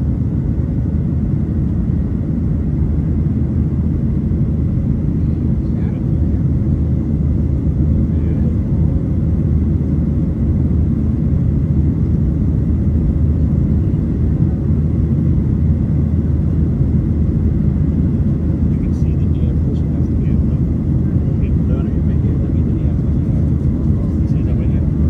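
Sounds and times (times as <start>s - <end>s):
airplane low drone: 0.0s - 25.0s.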